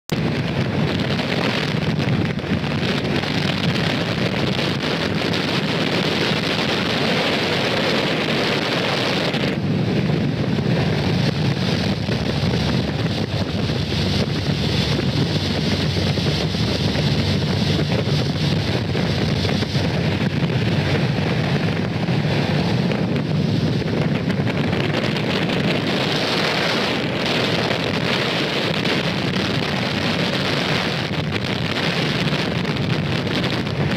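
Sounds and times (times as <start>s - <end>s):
speedboat engine rumble: 0.1s - 33.9s
wind buffeting microphone: 0.1s - 33.9s.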